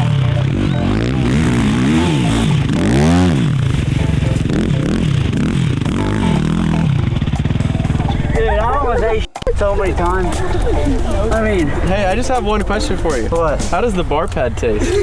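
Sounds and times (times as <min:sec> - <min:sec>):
quad engine revving: 0:00.0 - 0:14.9.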